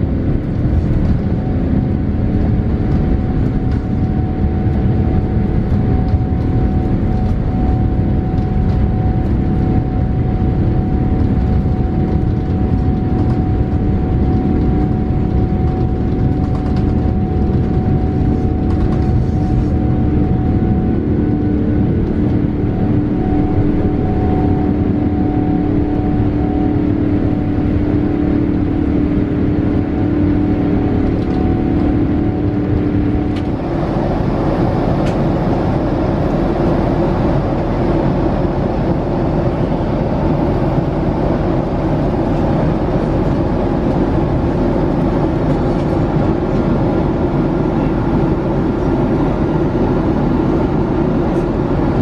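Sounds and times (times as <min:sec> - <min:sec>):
airliner cabin noise: 0:00.0 - 0:52.0
jet engine droning tone: 0:00.0 - 0:52.0.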